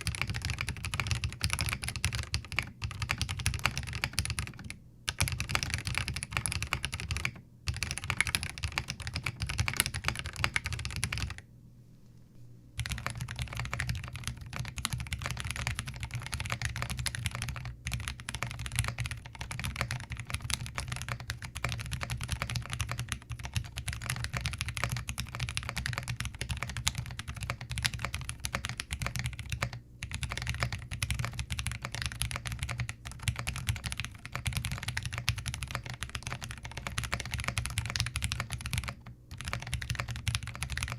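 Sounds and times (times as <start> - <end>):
mechanical keyboard typing: 0.0 - 11.4, 12.8 - 40.9.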